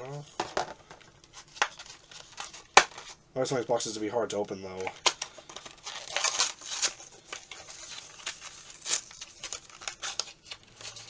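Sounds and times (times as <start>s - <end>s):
packaging scraping and crinkling: 0.1s - 3.2s, 4.8s - 11.0s.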